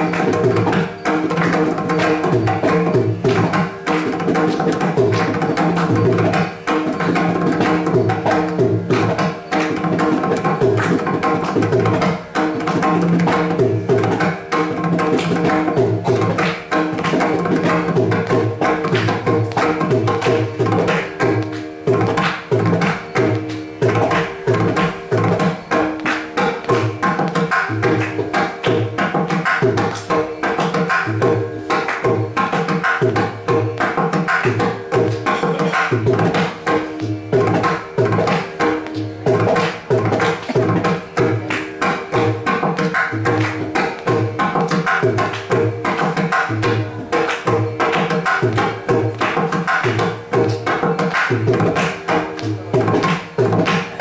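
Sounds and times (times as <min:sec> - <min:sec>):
electronic tanpura drone: 0:00.0 - 0:54.0
mridangam drum strokes: 0:00.0 - 0:54.0.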